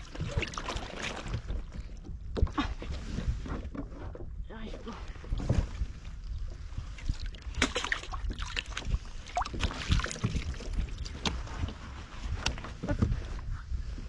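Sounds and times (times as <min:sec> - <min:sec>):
water lapping against kayak hull: 0:00.0 - 0:14.0.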